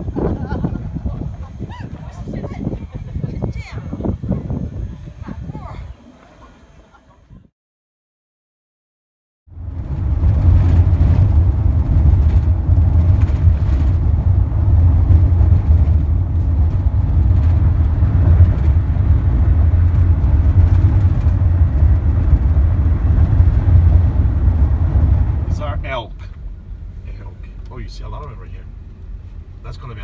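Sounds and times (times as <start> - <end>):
car road noise rumble: 0.0 - 5.9, 9.5 - 30.0.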